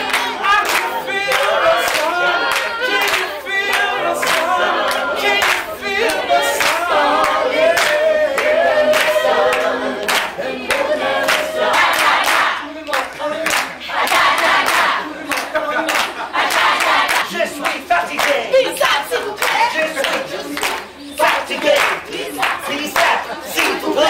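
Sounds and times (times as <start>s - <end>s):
hand claps: 0.0s - 23.8s
group of people singing: 0.0s - 24.0s.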